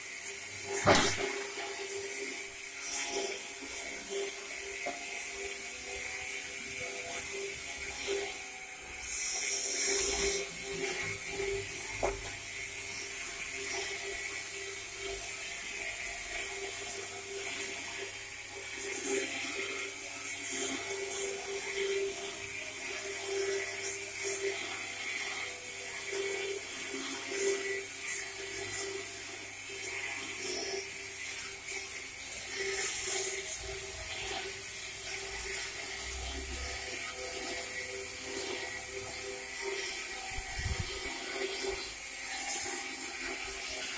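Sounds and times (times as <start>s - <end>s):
plate rolling machine humming: 0.0s - 43.9s.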